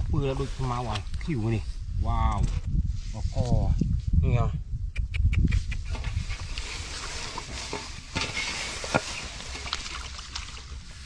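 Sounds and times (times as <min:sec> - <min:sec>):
rustling grass and leaves: 0:00.0 - 0:04.2, 0:05.5 - 0:11.0.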